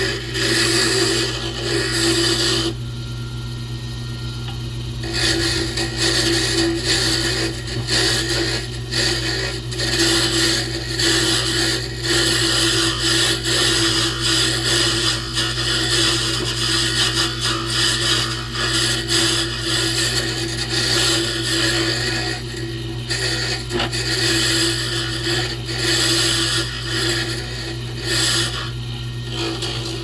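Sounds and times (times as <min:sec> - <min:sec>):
tool scraping spinning wood: 0:00.0 - 0:30.0
wood lathe motor hum: 0:00.0 - 0:30.0.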